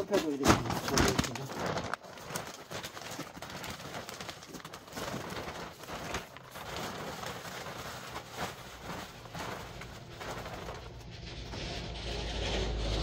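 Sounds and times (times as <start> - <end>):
plastic sack rustling: 0.0 - 12.8.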